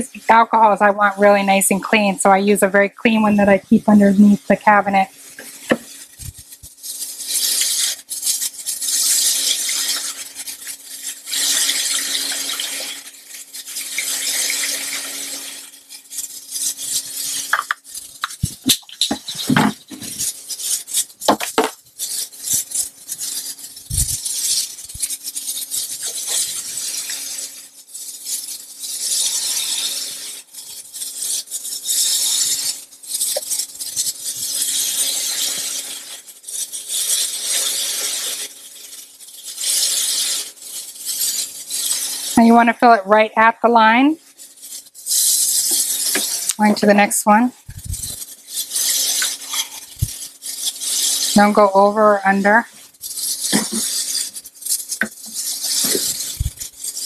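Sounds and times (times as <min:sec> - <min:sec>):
liquid pouring through funnel: 0:05.0 - 0:42.4, 0:44.3 - 0:56.8.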